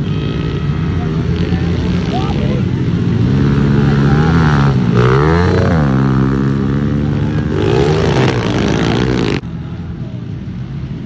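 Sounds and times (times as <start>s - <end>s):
dirt bikes revving past: 0.0s - 9.4s.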